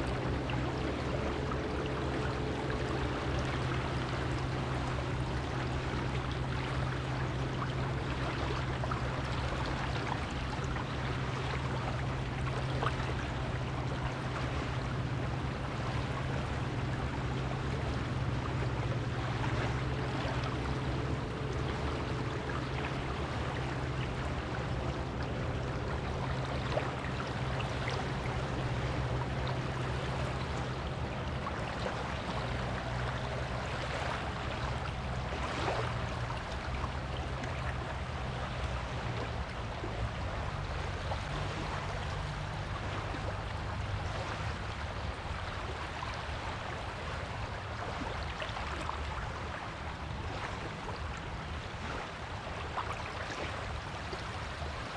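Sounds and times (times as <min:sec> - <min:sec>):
surf washing on beach: 0:00.0 - 0:54.9.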